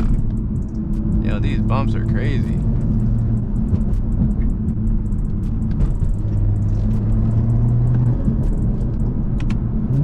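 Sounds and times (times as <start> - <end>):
car engine droning: 0.0 - 10.0
car rattling over bumps: 0.0 - 10.0.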